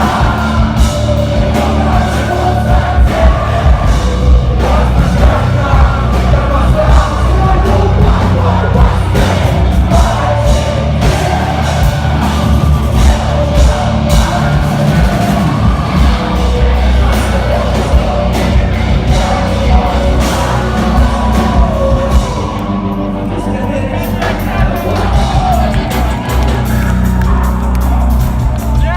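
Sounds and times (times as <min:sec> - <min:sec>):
heavy rock band playing: 0:00.0 - 0:28.9.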